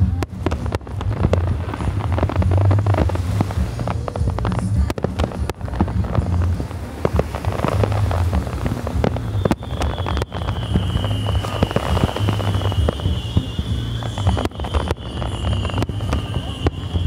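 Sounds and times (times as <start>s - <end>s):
fireworks bangs and crackles: 0.0s - 17.0s
music with heavy bass: 0.0s - 17.0s.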